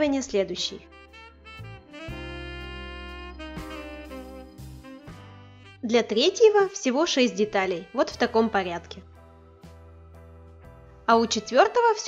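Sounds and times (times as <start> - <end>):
jazz background music: 0.0 - 12.0.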